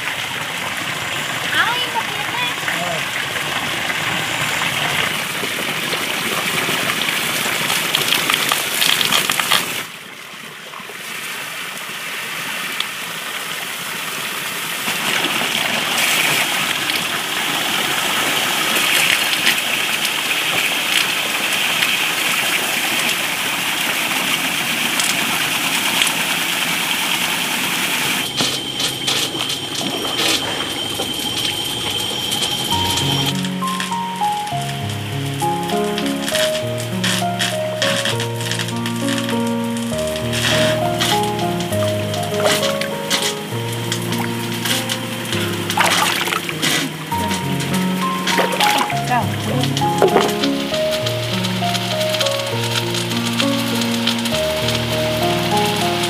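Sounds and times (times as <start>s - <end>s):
water running from a tap: 0.0s - 9.9s, 14.8s - 56.0s.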